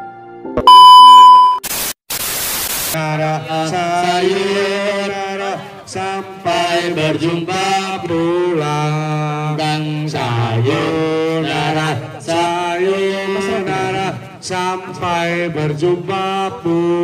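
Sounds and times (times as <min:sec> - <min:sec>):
man singing into a microphone: 0:03.0 - 0:17.0.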